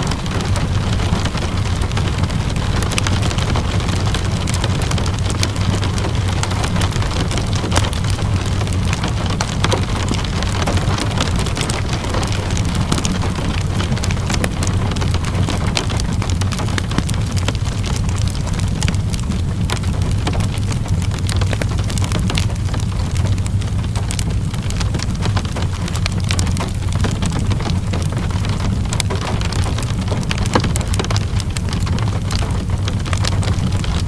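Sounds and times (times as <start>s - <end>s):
steady rain: 0.0s - 34.0s
wood fire crackling: 0.0s - 34.0s.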